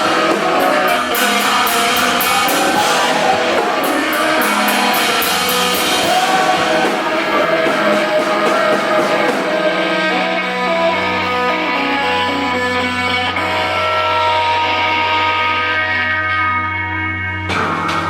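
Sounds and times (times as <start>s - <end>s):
drums: 0.0s - 16.0s, 17.3s - 18.0s
bass guitar: 0.0s - 18.0s
electric guitars: 0.0s - 18.0s.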